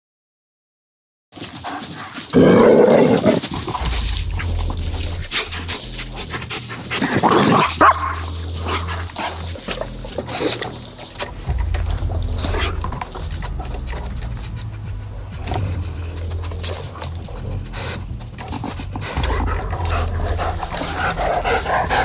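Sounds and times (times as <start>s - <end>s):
dogs barking: 1.5s - 22.0s
low microphone rumble: 3.5s - 22.0s.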